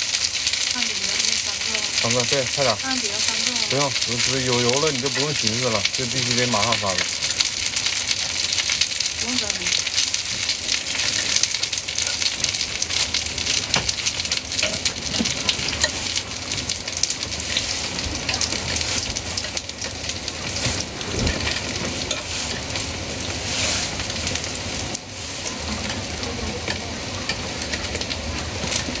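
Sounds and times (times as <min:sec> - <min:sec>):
flatbreads sizzling in hot oil: 0:00.0 - 0:29.0
oil crackling and popping: 0:00.0 - 0:29.0.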